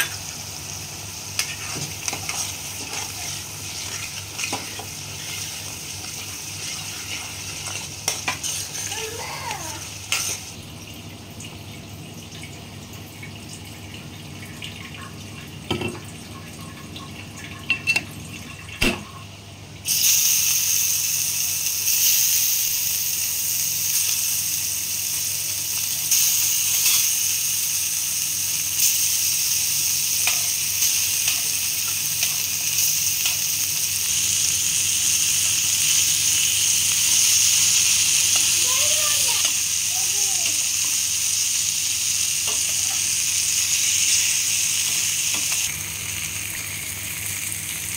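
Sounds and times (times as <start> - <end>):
cheese sizzling in hot oil: 0.0 - 18.9, 19.7 - 47.9.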